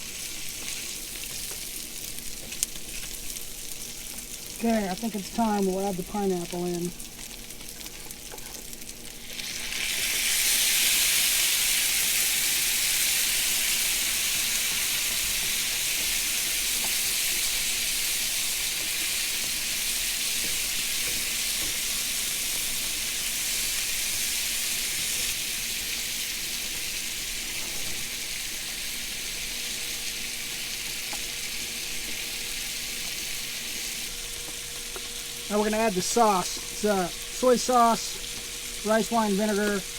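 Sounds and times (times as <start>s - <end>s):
food sizzling in a skillet: 0.0s - 39.9s.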